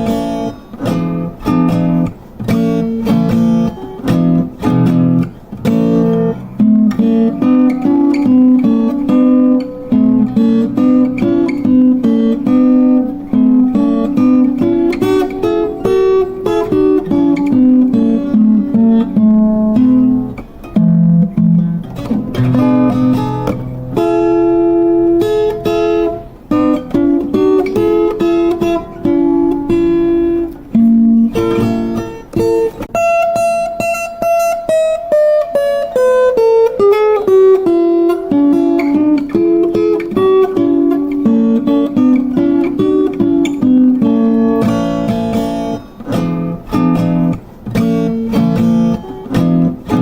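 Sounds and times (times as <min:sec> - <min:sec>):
acoustic plucked string melody: 0:00.0 - 0:50.0.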